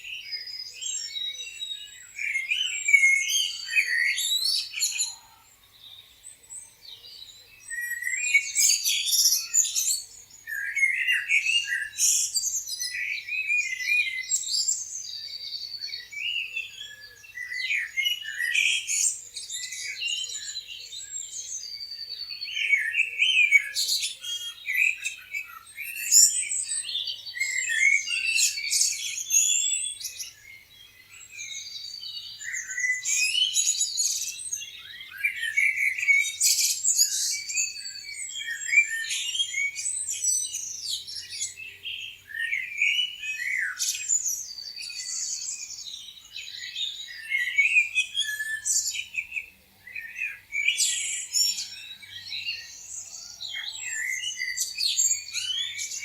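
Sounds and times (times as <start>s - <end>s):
chorus of songbirds chirping: 0.0s - 56.0s.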